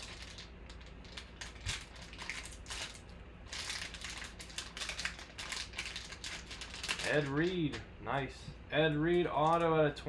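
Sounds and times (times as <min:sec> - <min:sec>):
foil pack crinkling: 0:00.0 - 0:07.8, 0:09.0 - 0:09.8.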